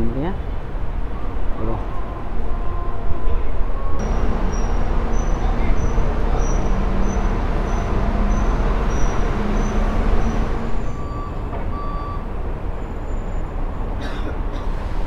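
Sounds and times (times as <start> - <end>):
bus engine rumbling: 0.0 - 15.0
traffic noise: 0.0 - 15.0.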